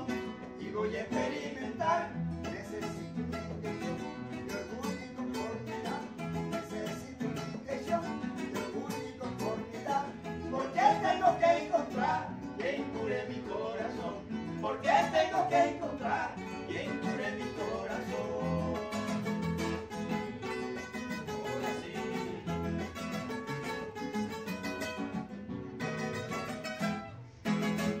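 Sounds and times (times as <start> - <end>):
acoustic guitars playing: 0.0 - 28.0.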